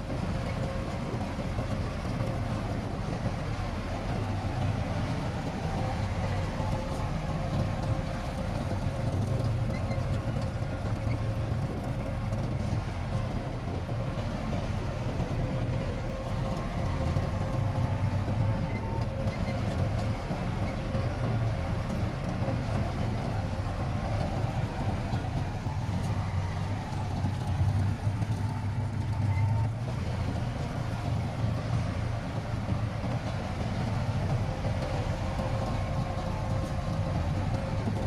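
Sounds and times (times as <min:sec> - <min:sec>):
diesel engine drone: 0:00.0 - 0:38.0.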